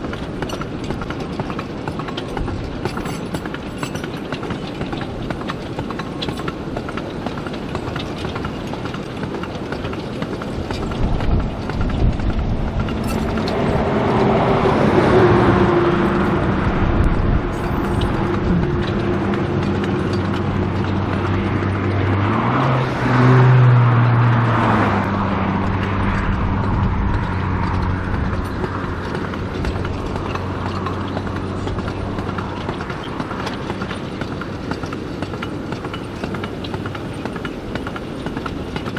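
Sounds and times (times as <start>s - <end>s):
diesel locomotive engine running: 0.0s - 38.9s
train wheels clicking over rail joints: 0.0s - 38.9s.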